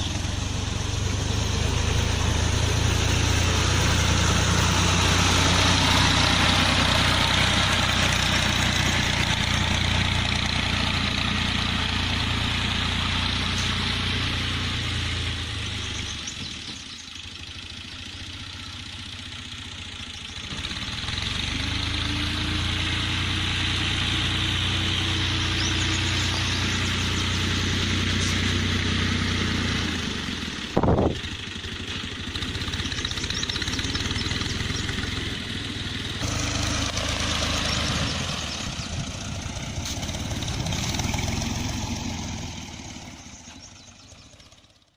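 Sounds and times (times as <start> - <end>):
farm machinery engine humming: 0.0 - 44.9.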